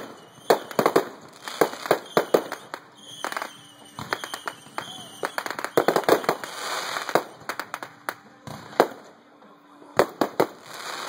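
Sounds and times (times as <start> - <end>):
firework burst hiss: 0.0 - 9.0
loud firework bangs: 0.0 - 9.1
firework cracks: 0.0 - 9.2, 10.0 - 11.0.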